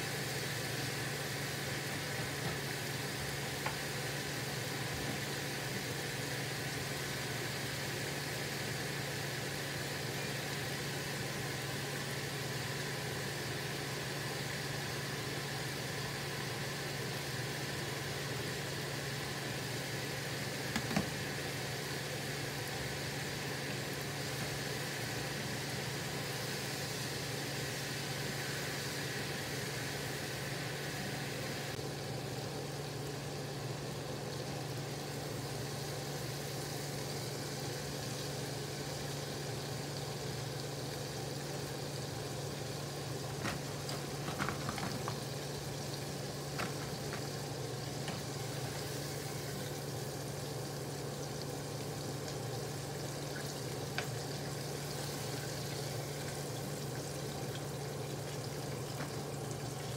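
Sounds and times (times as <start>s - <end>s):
deep-frying sizzle: 0.0s - 59.9s.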